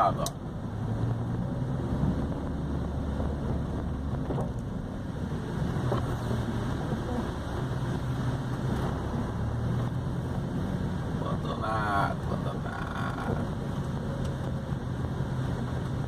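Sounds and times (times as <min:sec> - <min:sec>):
car engine droning: 0:00.0 - 0:16.0
road noise: 0:00.0 - 0:16.0.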